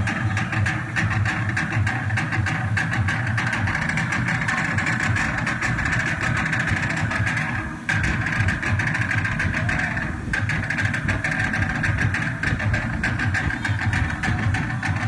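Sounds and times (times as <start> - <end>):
dance music with drumbeat: 0.0 - 15.0.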